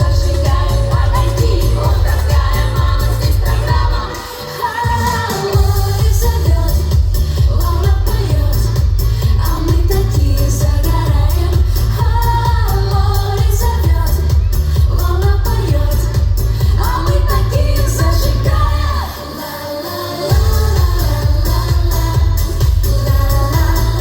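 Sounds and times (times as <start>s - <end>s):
steady bass beat: 0.0s - 19.2s, 20.3s - 24.0s
live pop music: 0.0s - 24.0s
woman singing: 0.0s - 24.0s.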